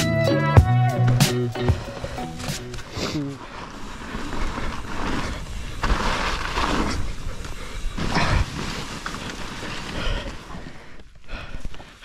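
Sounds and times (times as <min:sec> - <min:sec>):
bike rattling: 0:00.8 - 0:12.0
bike tyres hissing through snow: 0:01.0 - 0:12.0.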